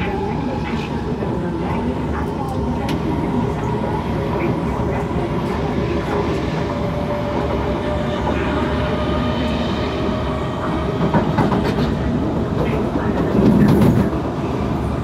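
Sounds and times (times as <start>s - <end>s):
train wheel and track rumble: 0.0s - 15.0s.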